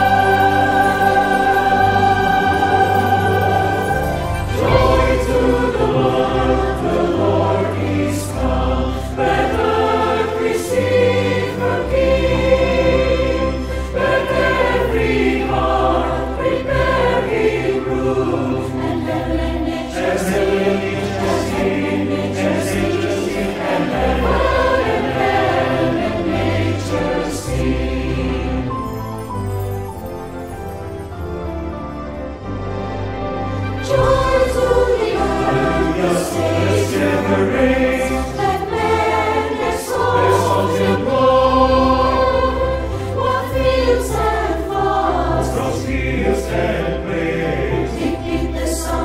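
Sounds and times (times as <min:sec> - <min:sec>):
mixed choir singing: 0:00.0 - 0:28.9, 0:33.5 - 0:49.0
instrumental ensemble: 0:00.0 - 0:49.0.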